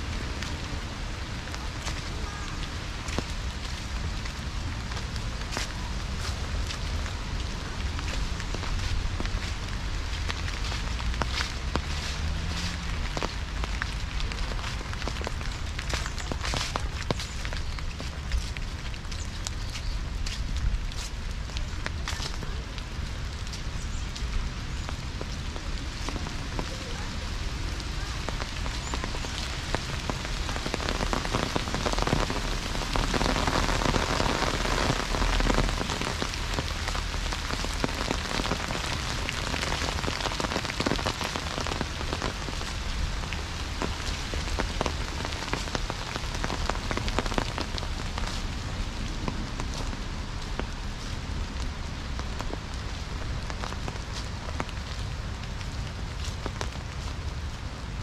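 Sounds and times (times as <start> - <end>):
rain pattering on leaves: 0.0 - 58.0.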